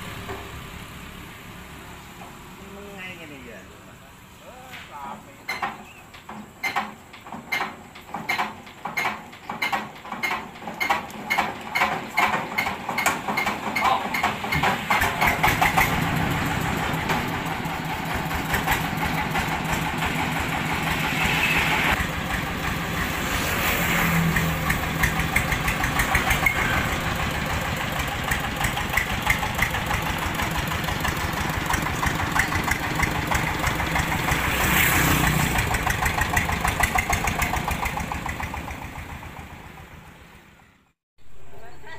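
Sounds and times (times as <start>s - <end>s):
diesel engine running: 0.0s - 2.9s, 8.0s - 40.9s
diesel engine hand-cranked: 5.4s - 23.5s, 24.1s - 40.1s.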